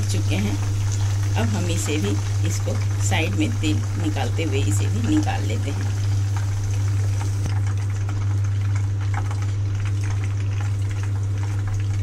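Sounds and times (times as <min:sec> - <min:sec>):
food frying in hot oil: 0:00.0 - 0:12.0
steady low hum: 0:00.0 - 0:12.0.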